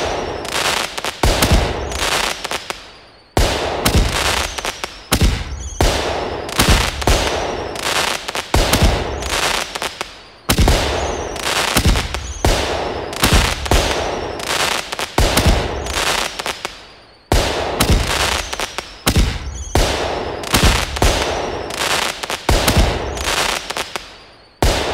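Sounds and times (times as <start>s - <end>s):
fireworks bangs and pops: 0.0s - 24.9s
fireworks hiss: 0.0s - 24.9s.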